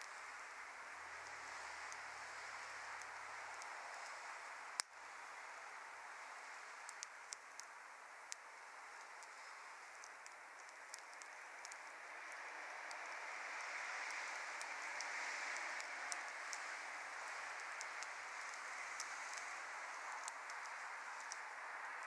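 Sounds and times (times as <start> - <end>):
hiss of flame: 0.0 - 22.0
wood crackling and popping: 0.0 - 22.0.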